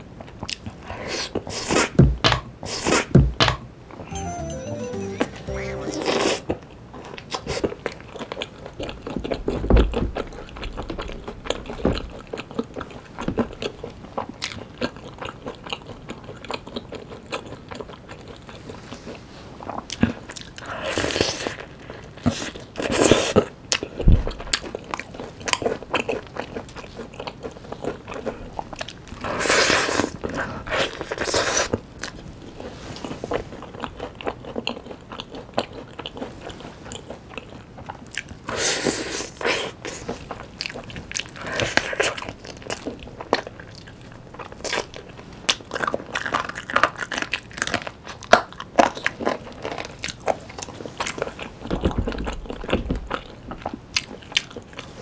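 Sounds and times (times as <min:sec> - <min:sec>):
biting and chewing fried chicken: 0:07.2 - 0:18.9, 0:19.5 - 0:55.0.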